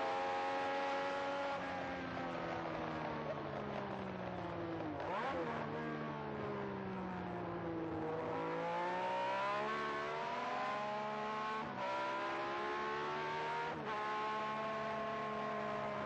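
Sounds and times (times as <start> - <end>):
racing car engine at full throttle: 0.0 - 16.0.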